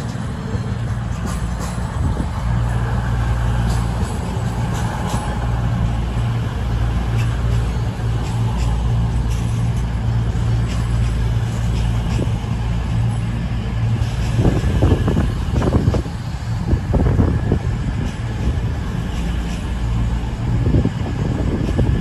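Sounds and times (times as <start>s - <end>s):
train diesel engines humming: 0.0s - 22.0s.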